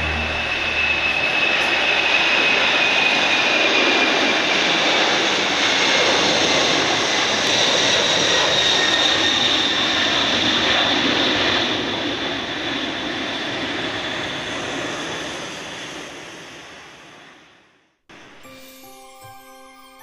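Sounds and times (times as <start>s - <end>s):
jet engines at takeoff: 0.0s - 17.8s.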